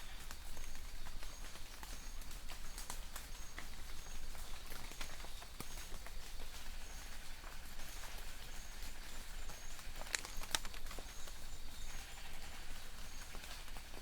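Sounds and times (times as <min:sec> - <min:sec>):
distant bird chirps: 0:00.0 - 0:14.0
light rain pattering: 0:00.0 - 0:14.0.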